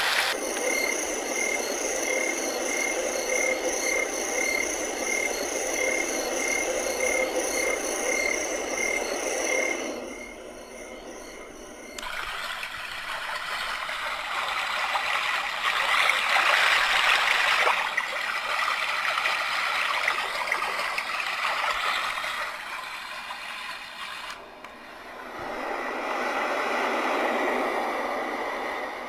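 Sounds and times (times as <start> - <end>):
recorded flowing water hiss: 0.0 - 29.0.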